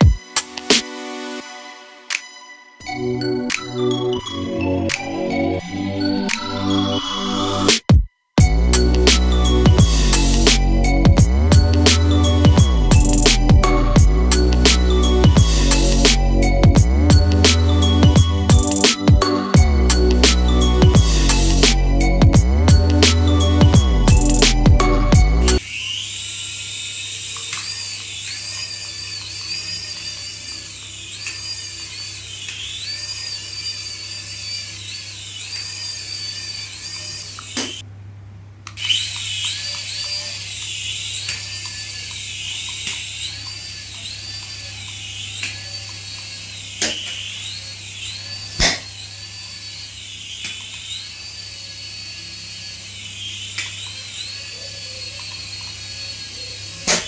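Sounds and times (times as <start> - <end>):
toy electric motor whining: 0.0 - 0.8, 2.8 - 7.7, 8.4 - 37.8, 38.7 - 57.0.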